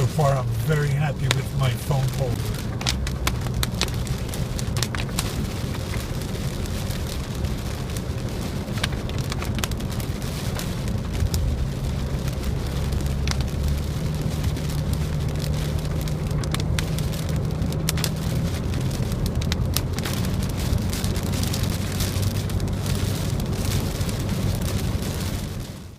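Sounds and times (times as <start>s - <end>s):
engine and tyres droning: 0.0s - 25.9s
rain on car: 0.0s - 25.9s
raindrops tapping windshield: 0.0s - 25.9s.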